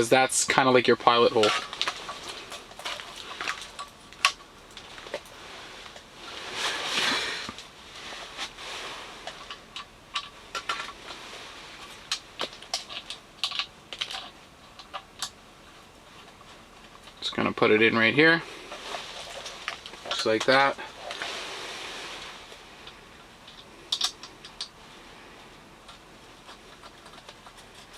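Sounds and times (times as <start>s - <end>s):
scraping rustle: 0.0s - 27.9s.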